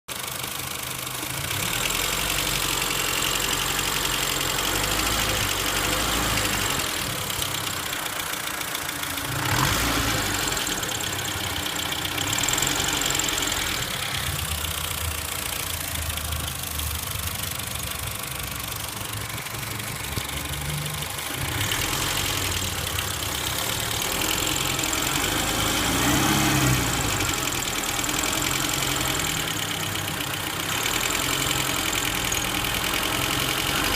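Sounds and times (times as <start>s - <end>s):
vehicle engine idling: 0.1s - 33.9s.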